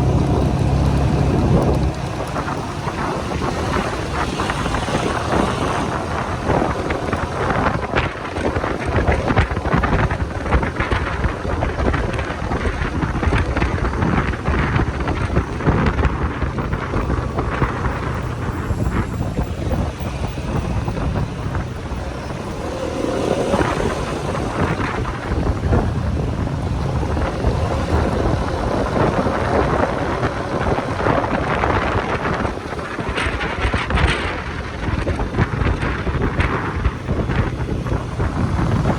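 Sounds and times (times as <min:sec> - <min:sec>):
motorcycle engine: 0:00.0 - 0:38.9
road noise: 0:00.0 - 0:38.9
wind buffeting microphone: 0:00.0 - 0:38.9.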